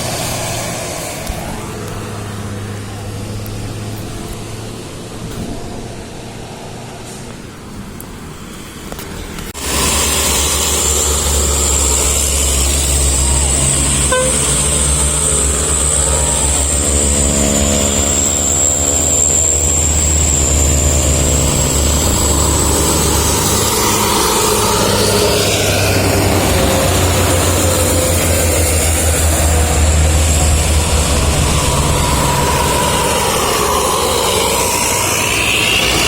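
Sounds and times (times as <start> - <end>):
bus diesel engine rumbling: 0.0 - 36.0
high-pitched engine whine: 0.0 - 36.0.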